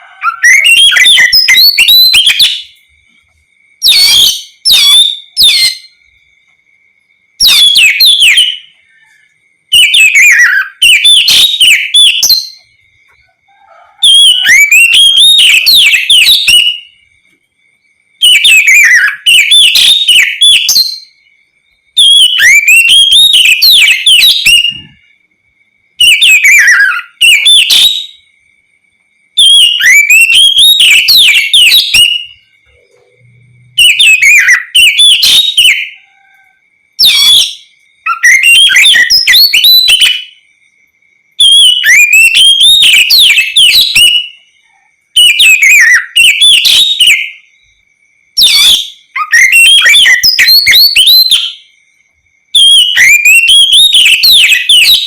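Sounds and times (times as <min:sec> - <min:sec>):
bird singing whistled notes: 0:00.0 - 0:25.2, 0:25.8 - 0:28.6, 0:29.2 - 0:55.0.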